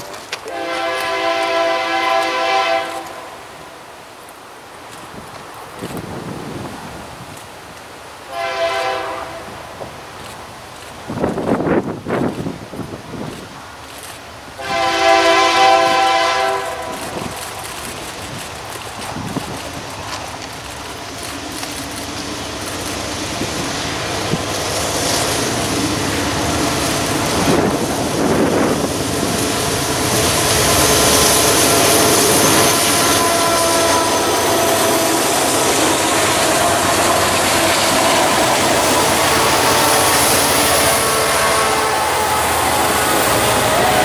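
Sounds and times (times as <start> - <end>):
freight cars rumbling on rails: 0.0 - 3.0, 8.8 - 44.0
diesel locomotives running: 0.0 - 44.0.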